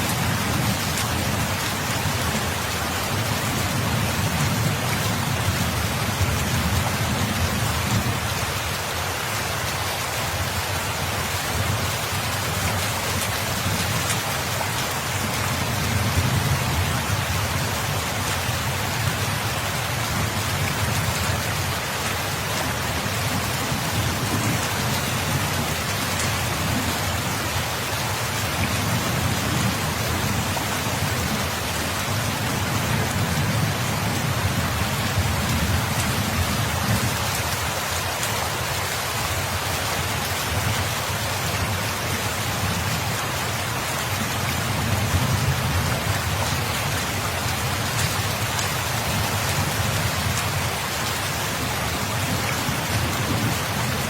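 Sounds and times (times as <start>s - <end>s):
dense rain falling: 0.0s - 54.0s.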